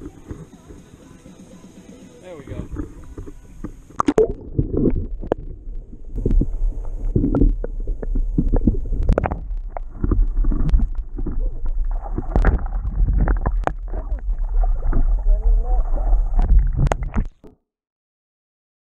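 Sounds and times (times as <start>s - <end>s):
low underwater rumble: 0.0s - 17.5s
knocks and gurgles: 1.8s - 17.5s.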